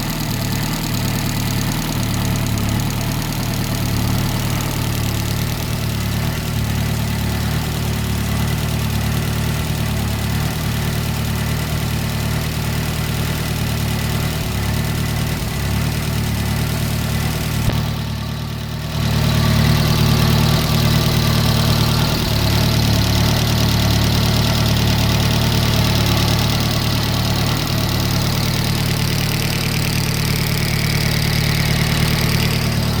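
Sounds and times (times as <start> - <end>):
engine idling with tappet noise: 0.0 - 33.0.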